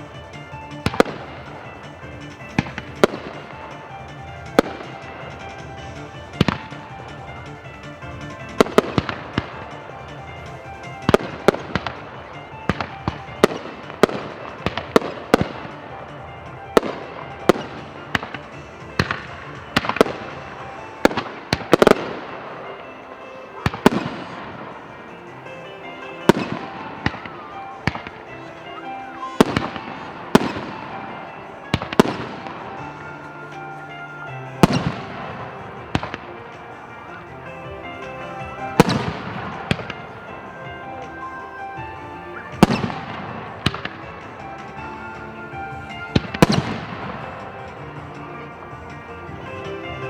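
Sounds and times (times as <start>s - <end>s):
background music: 0.0s - 50.0s
fireworks bursting: 0.0s - 50.0s.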